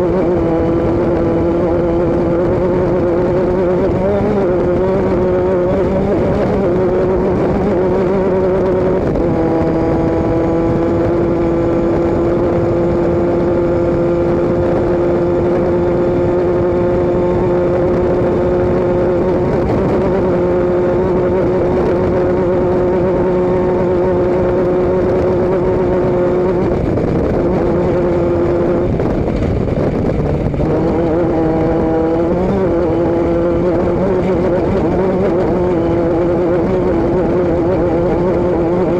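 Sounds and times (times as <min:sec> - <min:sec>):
road and wind rush: 0:00.0 - 0:38.9
vehicle engine and exhaust drone: 0:00.0 - 0:38.9.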